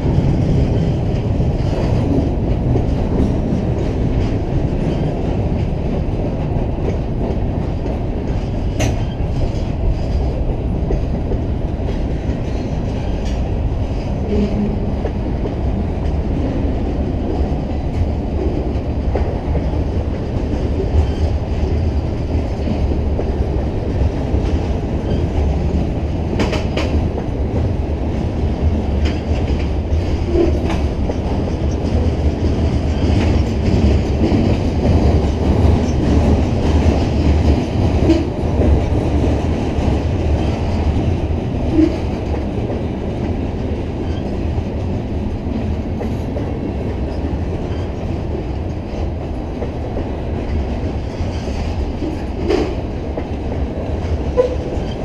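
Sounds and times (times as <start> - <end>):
clickety-clack over rail joints: 0.0 - 55.0
freight train wheels rumbling on rails: 0.0 - 55.0.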